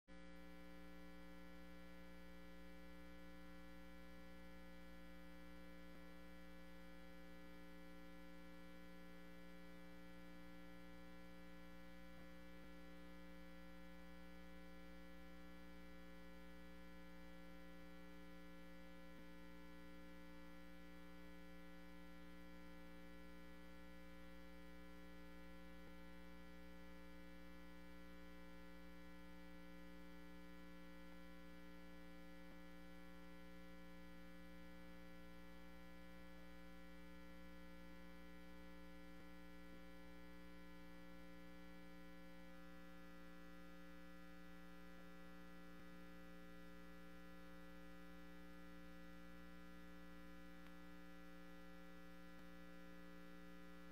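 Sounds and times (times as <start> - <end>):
electrical mains hum: 0.1 - 53.9.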